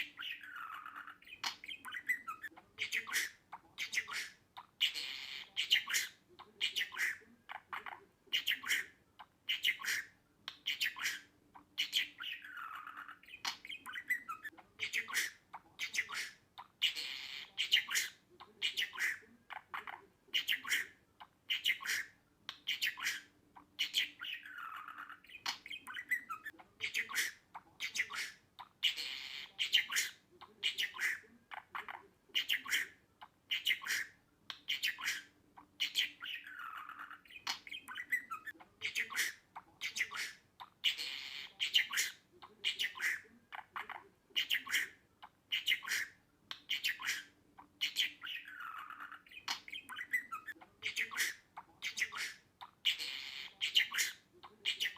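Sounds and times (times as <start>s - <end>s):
budgerigar chirping and squawking: 0.0s - 54.9s.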